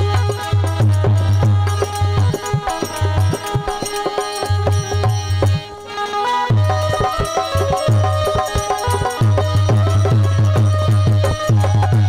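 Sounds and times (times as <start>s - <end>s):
harmonium and keyboard melody: 0.0s - 12.0s.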